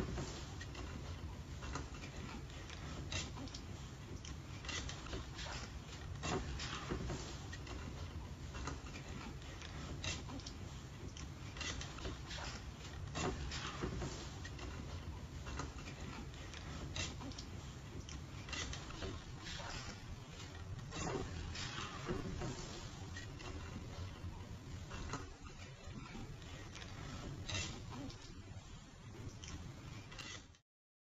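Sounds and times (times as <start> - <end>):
steady low hum: 0.0 - 30.6.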